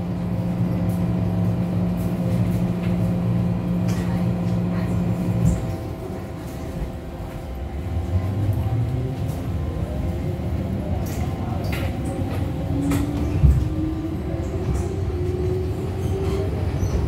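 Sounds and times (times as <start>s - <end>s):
train running hum: 0.0s - 17.0s.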